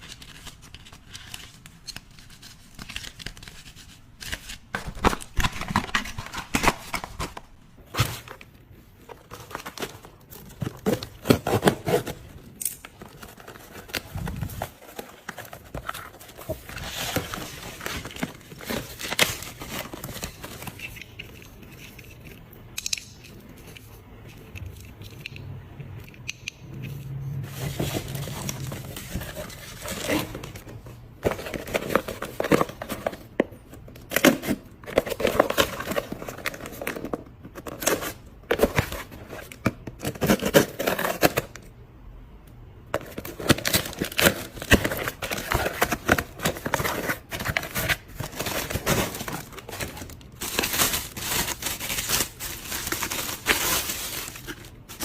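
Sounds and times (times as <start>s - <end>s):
packaging rustling: 0.0s - 22.2s, 27.4s - 41.6s, 43.0s - 55.0s.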